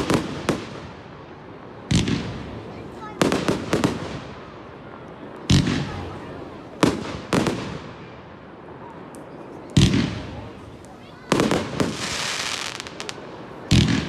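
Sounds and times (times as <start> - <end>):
firework bangs: 0.0 - 14.0.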